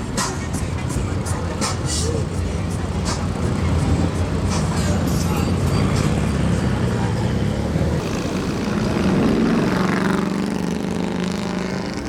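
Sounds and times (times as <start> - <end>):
car engine running: 2.2 - 12.0.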